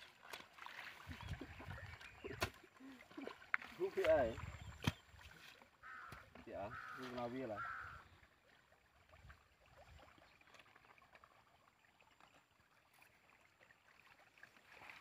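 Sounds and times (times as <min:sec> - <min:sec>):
small splashes in muddy water: 0:00.0 - 0:15.0.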